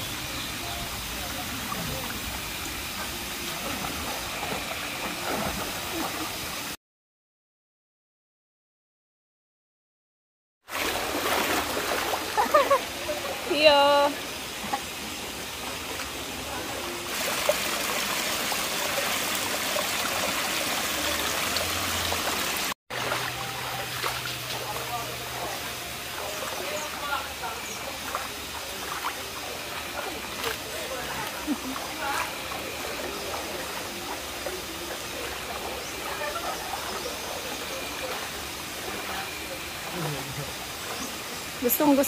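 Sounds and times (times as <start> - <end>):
running water rushing: 0.0 - 6.8, 10.7 - 42.0.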